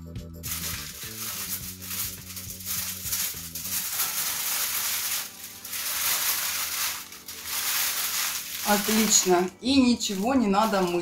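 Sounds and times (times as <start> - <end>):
background music with steady tones: 0.0 - 11.0
aluminium foil crinkling: 0.4 - 11.0.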